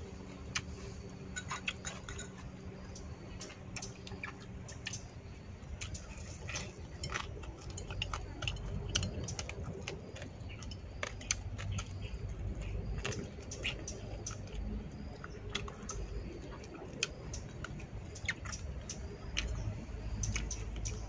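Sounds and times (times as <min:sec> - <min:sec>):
chewing meat: 0:00.0 - 0:21.0.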